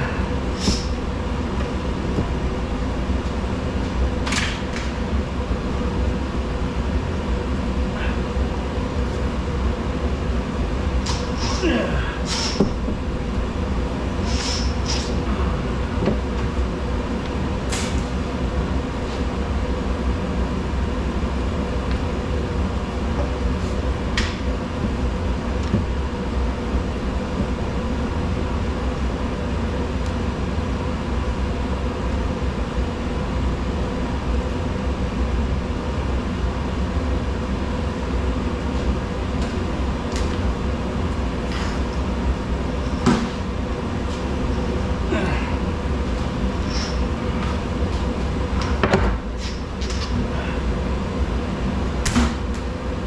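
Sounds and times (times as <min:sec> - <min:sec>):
mechanical drone with deep rumble: 0:00.0 - 0:53.0.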